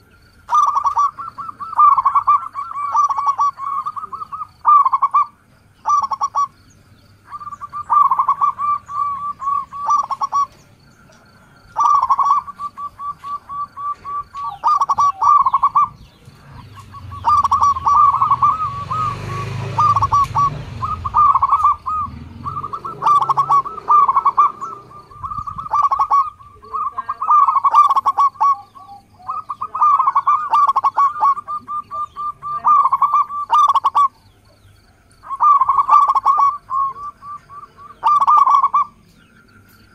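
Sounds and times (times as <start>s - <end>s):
dove cooing: 0.0s - 39.0s.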